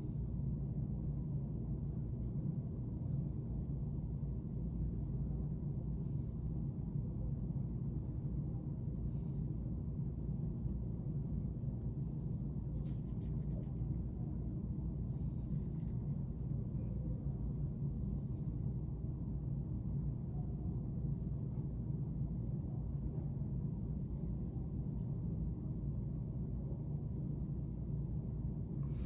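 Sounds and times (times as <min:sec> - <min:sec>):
low room rumble: 0:00.0 - 0:29.0.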